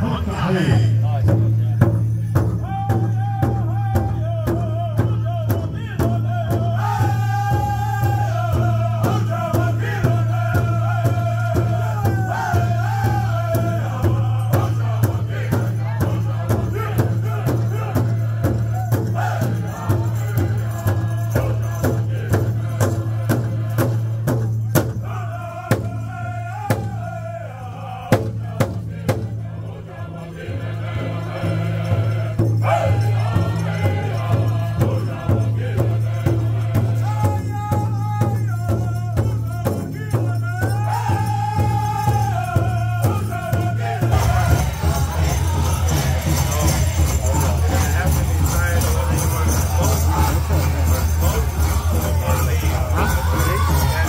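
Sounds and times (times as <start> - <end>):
large drum steady beat: 0.0 - 27.4, 28.0 - 54.0
group singing in high voices: 2.6 - 54.0.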